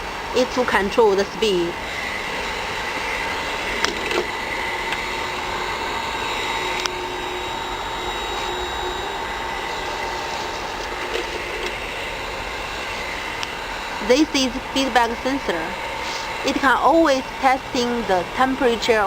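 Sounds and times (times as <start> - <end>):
heat gun blowing air: 1.8 - 18.8.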